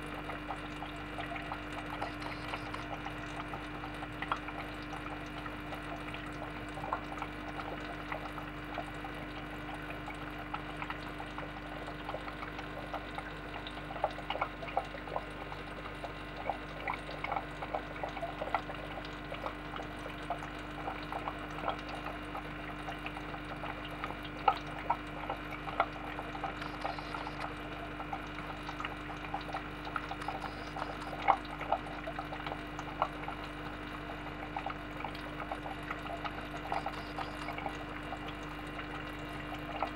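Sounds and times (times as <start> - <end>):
aquarium water bubbling and dripping: 0.0 - 39.9
low equipment hum: 0.0 - 39.9.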